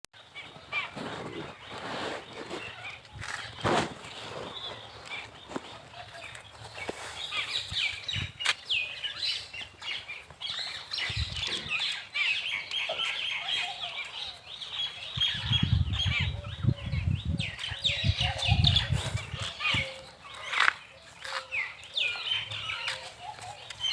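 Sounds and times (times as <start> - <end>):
small birds chirping: 0.2 - 23.9.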